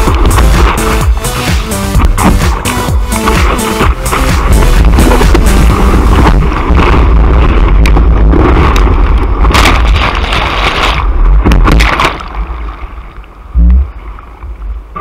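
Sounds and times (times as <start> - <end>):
water sloshing: 0.0 - 13.2
whitewater rushing and splashing: 0.0 - 14.2.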